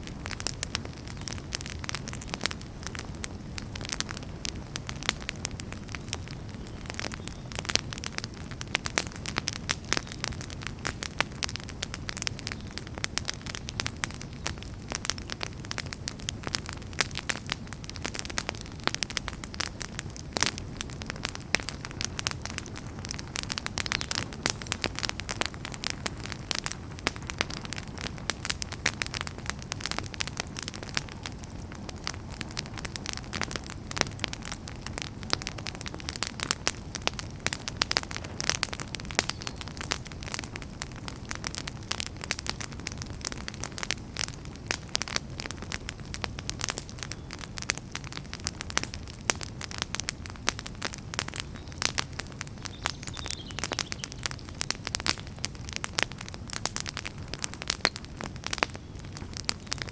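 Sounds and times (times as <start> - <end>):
campfire crackling: 0.0 - 59.9
low rumble of flames: 0.0 - 59.9.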